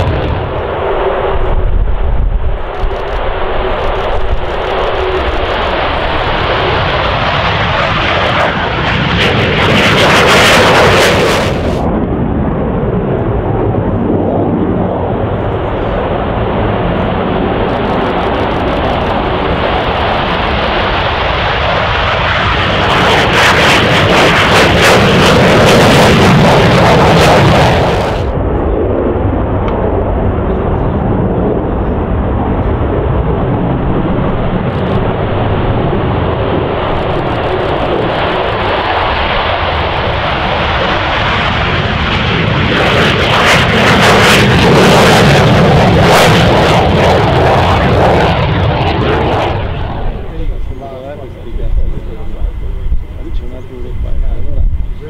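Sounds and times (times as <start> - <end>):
fighter jets taking off: 0.0 - 55.0.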